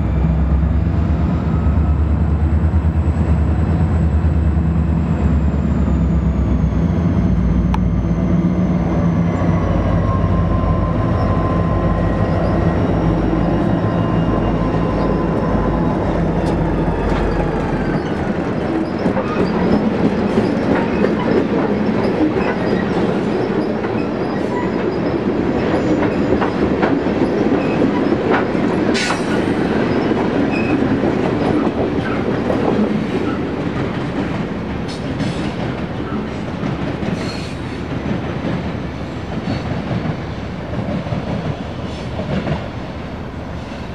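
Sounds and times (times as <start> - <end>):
train wheels rumbling and clicking: 0.0 - 43.8.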